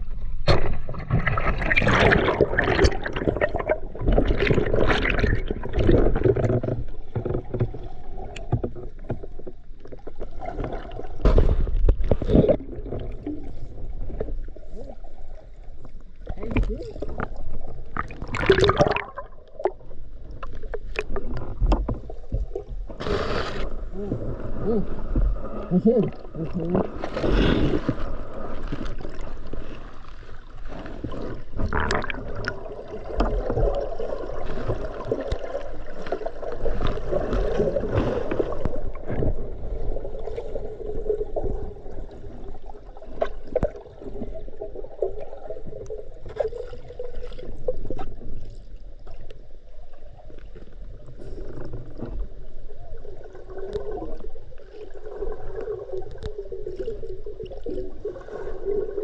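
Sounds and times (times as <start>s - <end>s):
underwater gurgling: 0.0s - 59.0s.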